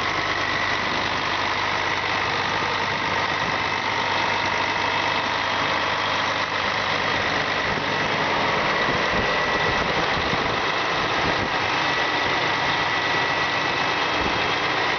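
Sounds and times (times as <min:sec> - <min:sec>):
diesel engine running: 0:00.0 - 0:14.9
high machine whine: 0:00.0 - 0:14.9.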